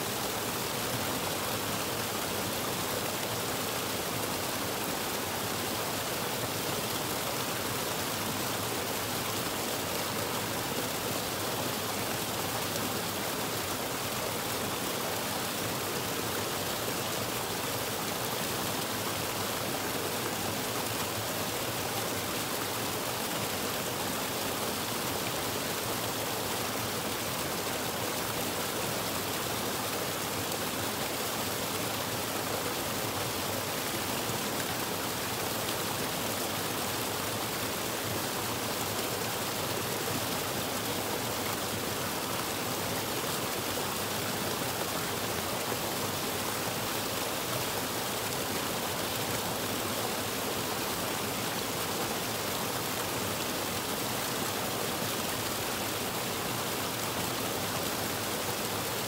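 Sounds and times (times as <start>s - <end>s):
waterfall splashing over rocks: 0.0s - 59.0s.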